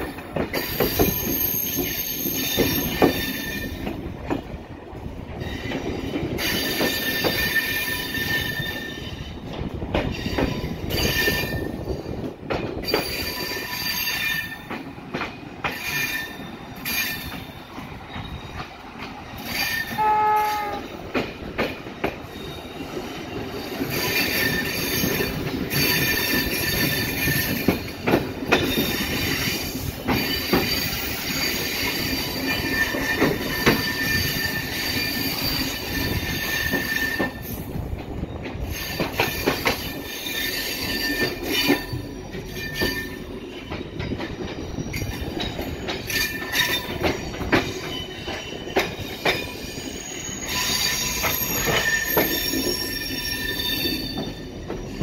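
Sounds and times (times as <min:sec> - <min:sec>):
train wheels squealing: 0:00.0 - 0:04.5, 0:05.4 - 0:55.0.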